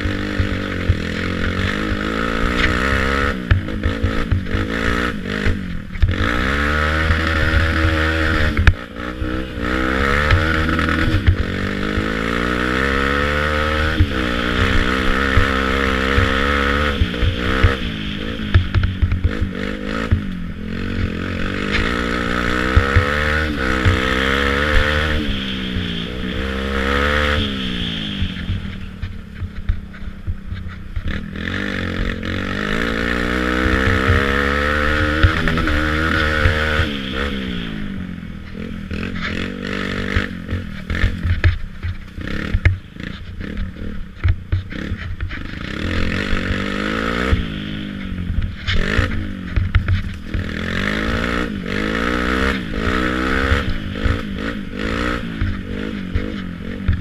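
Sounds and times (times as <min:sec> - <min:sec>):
atv engine revving: 0:00.0 - 0:57.0
knocks and rattles over rough ground: 0:00.0 - 0:57.0.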